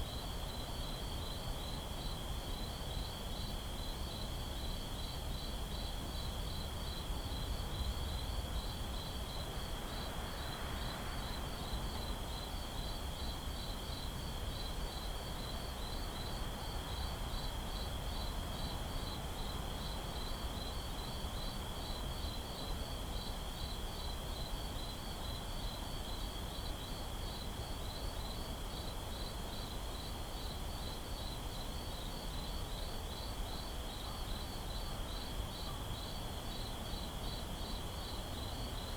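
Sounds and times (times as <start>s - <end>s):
regular cricket chirps: 0.0s - 38.9s.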